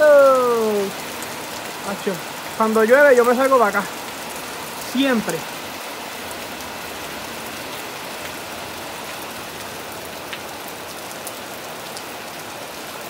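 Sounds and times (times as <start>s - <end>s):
heavy rain on a metal roof: 0.0s - 13.0s.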